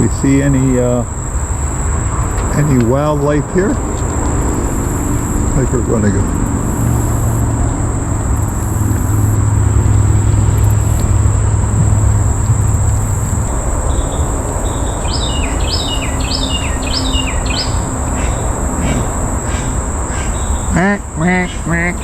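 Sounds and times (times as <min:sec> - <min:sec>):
high insect drone: 0:00.0 - 0:22.0
songbird singing: 0:00.0 - 0:22.0
low rumble: 0:01.0 - 0:19.5.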